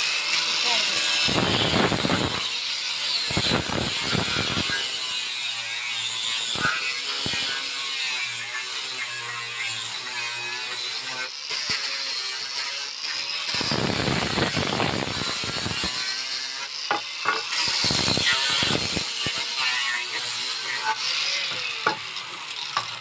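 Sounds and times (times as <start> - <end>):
angle grinder sanding wood: 0.0 - 23.0.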